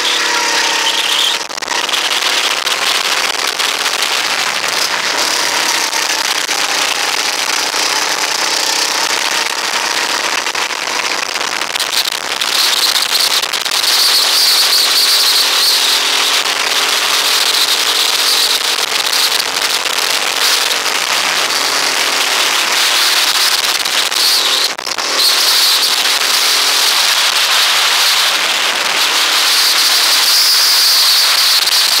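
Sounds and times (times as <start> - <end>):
go-kart engine revving: 0.0 - 32.0.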